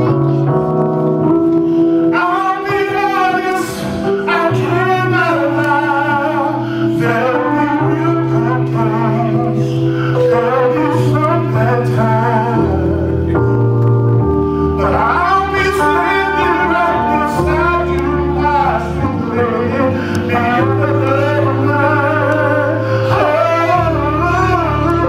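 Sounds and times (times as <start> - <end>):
long held chords: 0.0 - 25.0
person singing slow song: 0.0 - 25.0.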